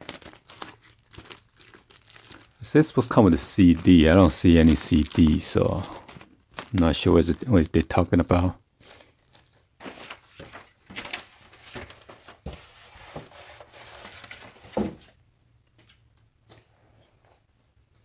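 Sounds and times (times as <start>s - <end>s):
paper and plastic sleeve rustling: 0.0s - 15.1s.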